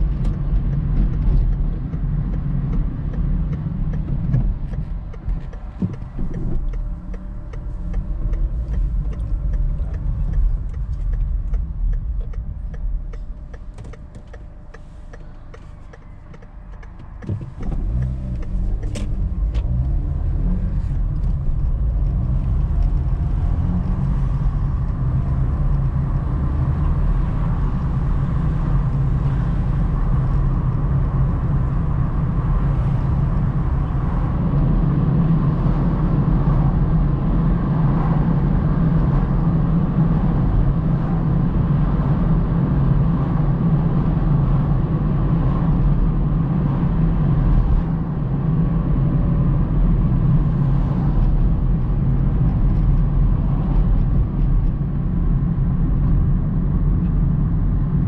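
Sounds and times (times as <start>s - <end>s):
tyre and engine rumble inside car: 0.0s - 58.0s.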